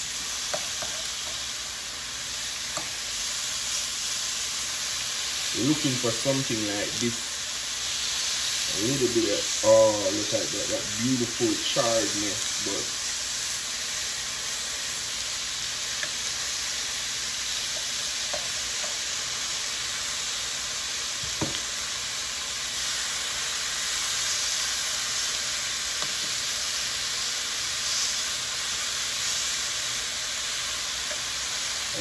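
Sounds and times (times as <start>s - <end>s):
meat sizzling in a skillet: 0.0s - 32.0s.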